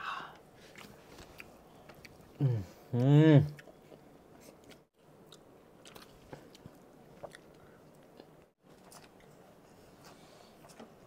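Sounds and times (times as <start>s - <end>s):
faint chewing: 0.4s - 2.4s, 3.5s - 11.0s.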